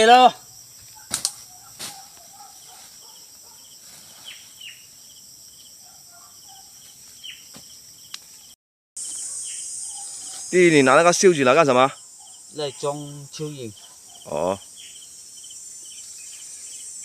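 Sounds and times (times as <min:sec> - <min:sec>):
insects trilling chorus: 0:00.0 - 0:17.0.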